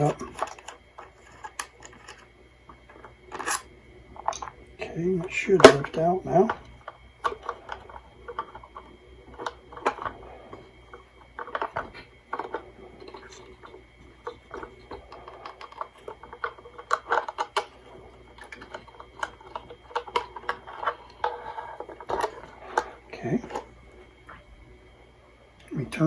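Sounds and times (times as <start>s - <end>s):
hands handling small radio: 0.0s - 4.6s, 5.2s - 24.4s
faint steady hum: 0.0s - 26.0s.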